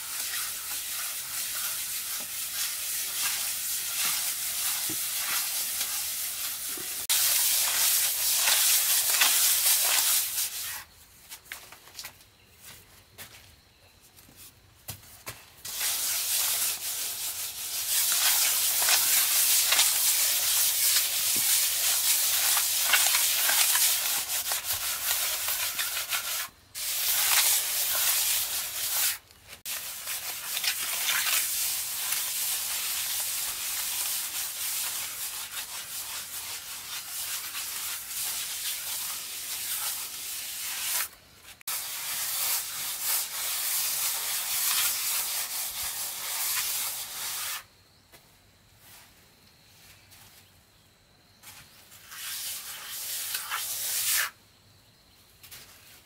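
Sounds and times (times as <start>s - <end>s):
plastering tool scratching render: 0.0s - 10.9s, 15.6s - 47.7s, 51.4s - 54.4s.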